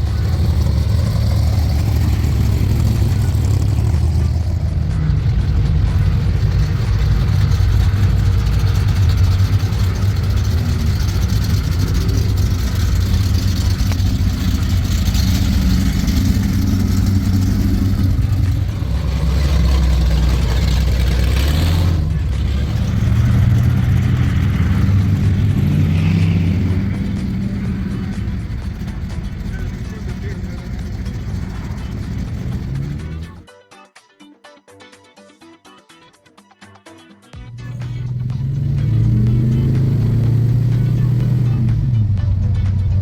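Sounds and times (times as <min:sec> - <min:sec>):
car engines deep rumble: 0:00.0 - 0:33.4, 0:37.4 - 0:43.0.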